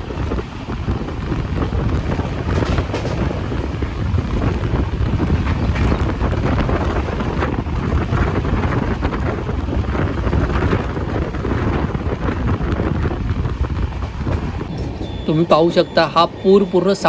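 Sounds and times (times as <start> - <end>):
train running rumble: 0.0 - 17.0
wind buffeting microphone: 0.0 - 17.0.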